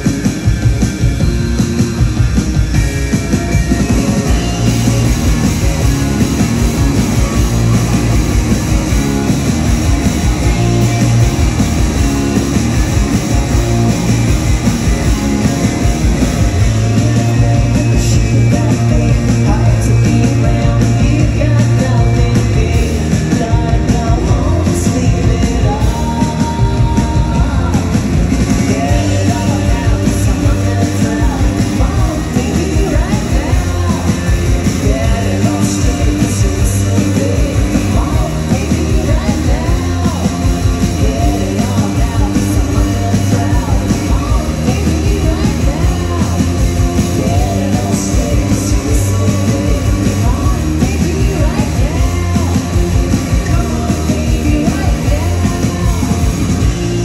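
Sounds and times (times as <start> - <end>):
drums: 0.0 - 57.0
electric guitars: 0.0 - 57.0
person singing: 3.2 - 57.0.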